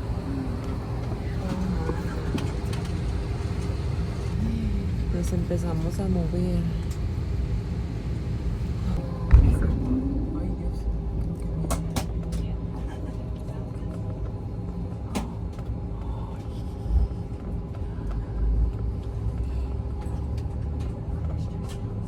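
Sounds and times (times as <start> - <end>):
airliner cabin rumble and hum: 0.0 - 22.0.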